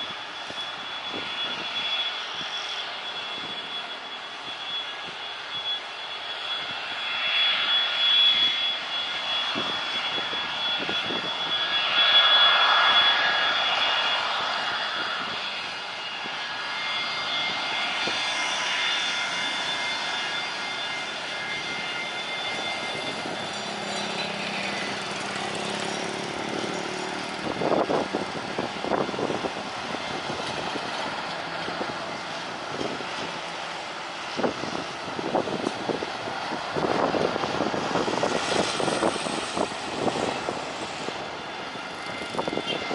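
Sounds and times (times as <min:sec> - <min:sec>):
jet engine roar: 0:00.0 - 0:42.9.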